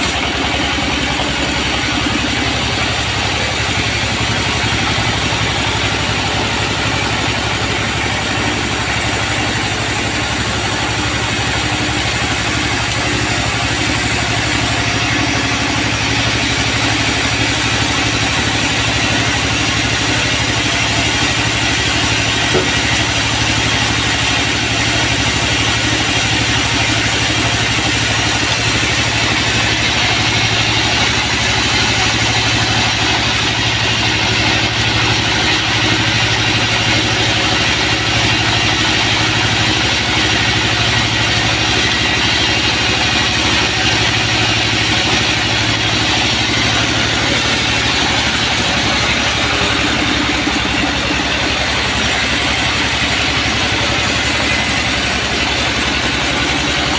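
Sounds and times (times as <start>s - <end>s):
band sawmill running: 0.0s - 56.9s.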